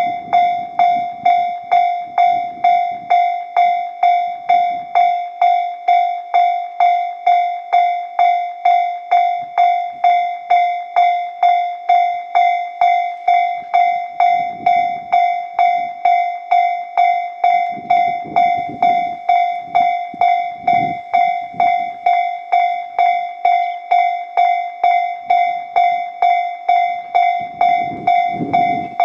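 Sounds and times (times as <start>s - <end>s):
level-crossing warning bell ringing: 0.0s - 29.0s.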